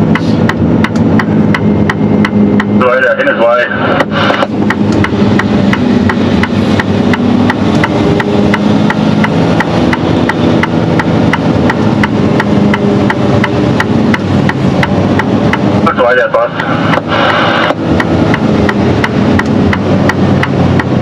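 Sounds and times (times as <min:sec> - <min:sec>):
truck diesel engine running: 0:00.0 - 0:21.0
rapid regular ticking: 0:00.1 - 0:21.0.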